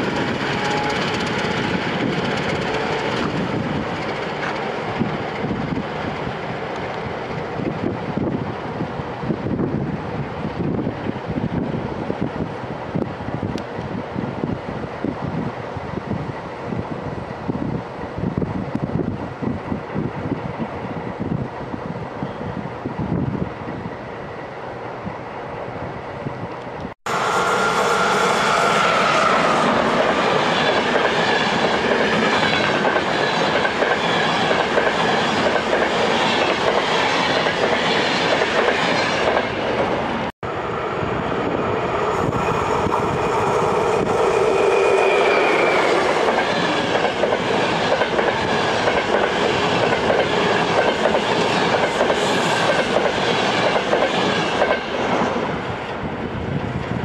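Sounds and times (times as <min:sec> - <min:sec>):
rush of passing train: 0:00.0 - 0:57.0.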